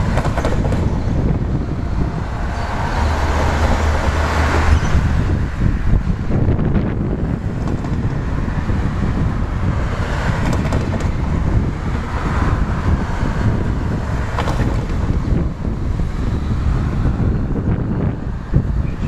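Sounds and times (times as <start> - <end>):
train low rumble: 0.0 - 19.0
wind buffeting microphone: 0.0 - 19.0.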